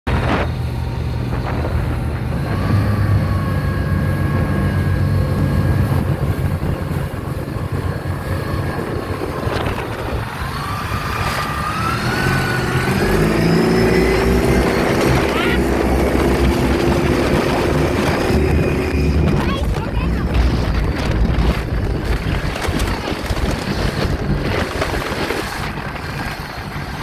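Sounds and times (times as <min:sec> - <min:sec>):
car road and engine noise: 0:00.1 - 0:27.0.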